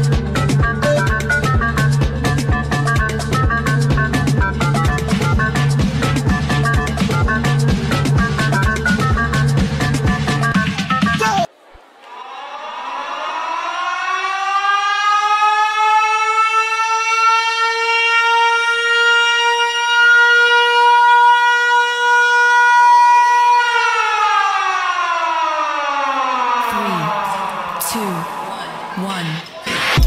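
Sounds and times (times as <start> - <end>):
air-raid siren wailing: 0.0 - 10.6, 11.4 - 29.6.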